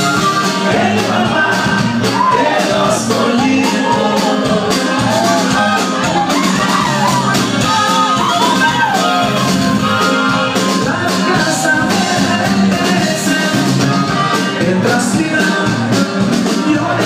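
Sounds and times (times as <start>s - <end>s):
crowd singing and shouting: 0.0s - 17.0s
loud live band music: 0.0s - 17.0s.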